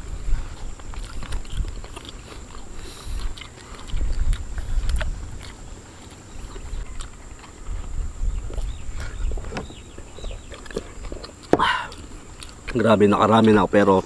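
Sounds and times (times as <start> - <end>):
low uneven rumble: 0.0 - 13.8
people chewing food: 0.0 - 14.0.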